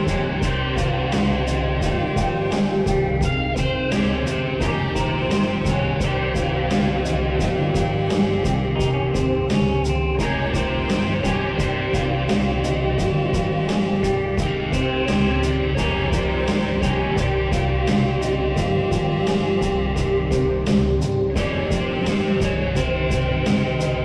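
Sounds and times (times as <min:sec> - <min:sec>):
slowed reverb-heavy guitar music: 0:00.0 - 0:24.0
steady ticking pulse: 0:00.0 - 0:24.0.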